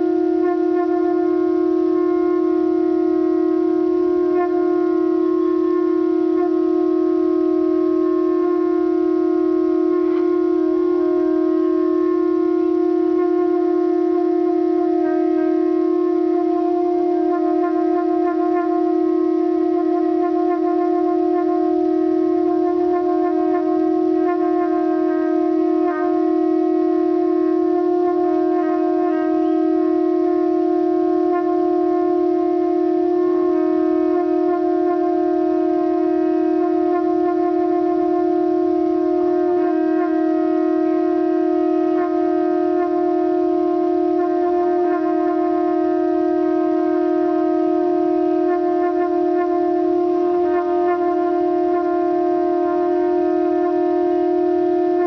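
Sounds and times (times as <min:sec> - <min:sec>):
horn blowing one long note: 0:00.0 - 0:55.0.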